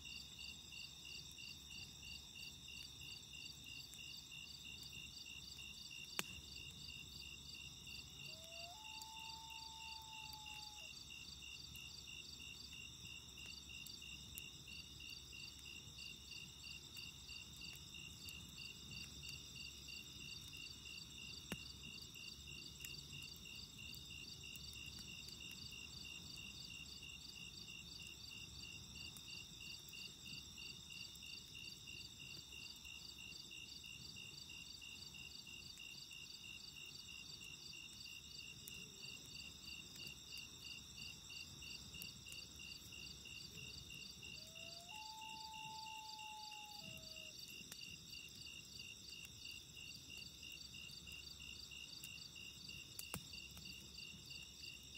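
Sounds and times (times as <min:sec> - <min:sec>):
crickets trilling: 0:00.0 - 0:54.9
campfire crackling: 0:00.2 - 0:44.4, 0:47.2 - 0:54.9.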